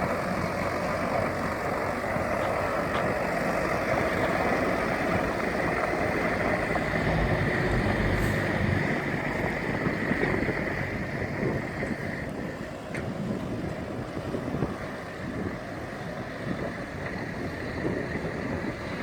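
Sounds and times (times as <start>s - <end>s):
diesel truck engine running: 0.0s - 19.0s
steady rushing noise: 0.0s - 19.0s.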